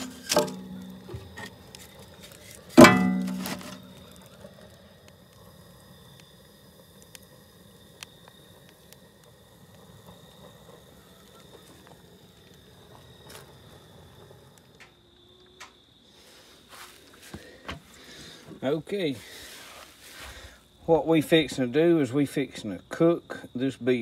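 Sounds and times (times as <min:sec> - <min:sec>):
faint high whine: 0:00.0 - 0:24.0
fire crackling: 0:00.0 - 0:24.0.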